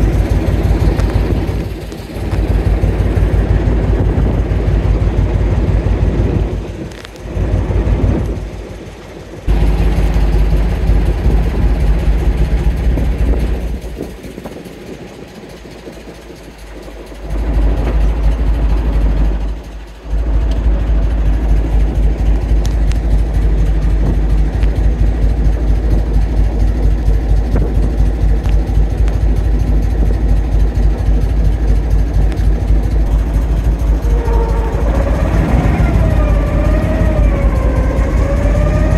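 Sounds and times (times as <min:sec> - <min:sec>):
boat engine throbbing: 0:00.0 - 0:38.9.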